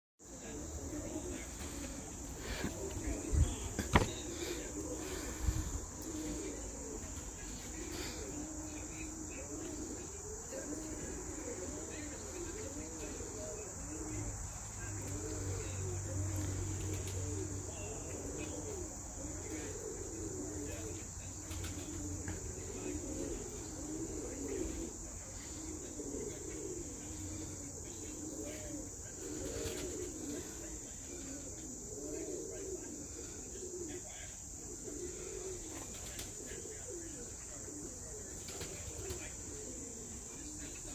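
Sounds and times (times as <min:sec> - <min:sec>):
insect chorus: 0:00.2 - 0:40.9
pigeons cooing: 0:00.2 - 0:40.9.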